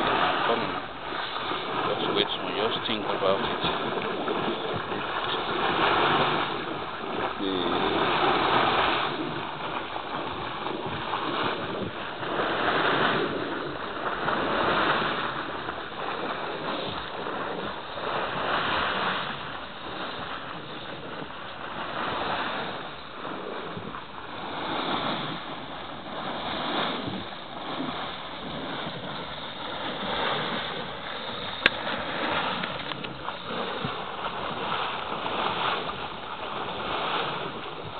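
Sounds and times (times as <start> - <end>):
liquid gushing from pipe: 0.0 - 37.9.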